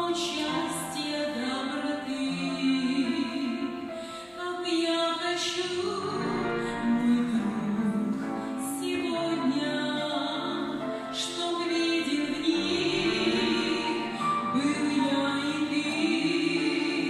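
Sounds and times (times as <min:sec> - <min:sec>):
woman singing slow song: 0:00.0 - 0:17.0.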